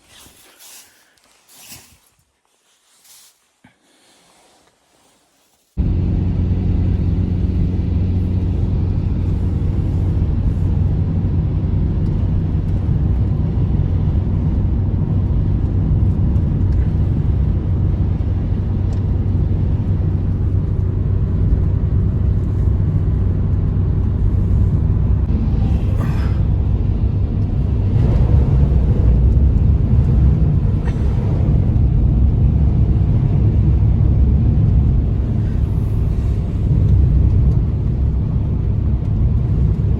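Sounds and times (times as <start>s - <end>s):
blizzard wind blowing hard: 5.7s - 39.9s.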